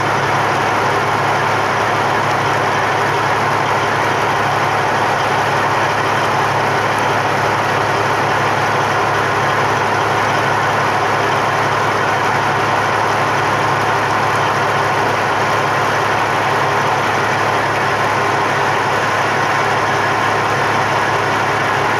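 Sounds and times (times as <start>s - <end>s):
diesel tractor engine idling: 0.0s - 21.9s.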